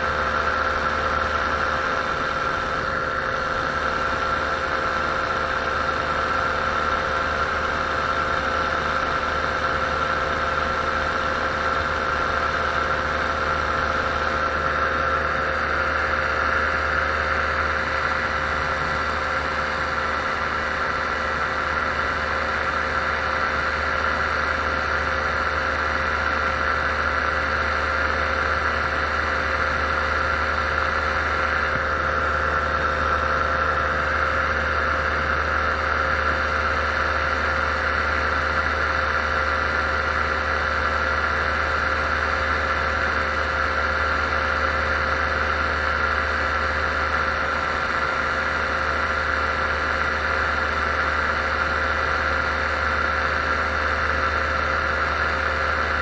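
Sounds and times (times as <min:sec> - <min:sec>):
paramotor engine drone: 0:00.0 - 0:56.0.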